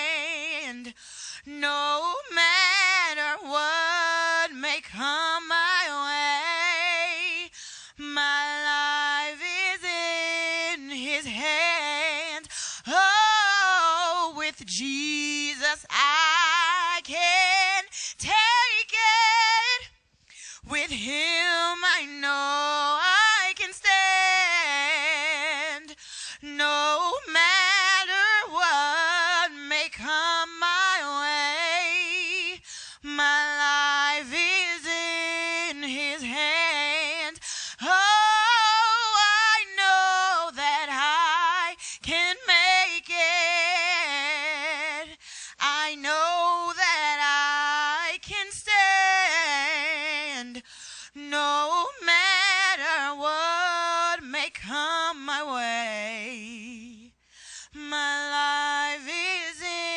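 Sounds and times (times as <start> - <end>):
woman singing gospel solo: 0.0 - 59.9.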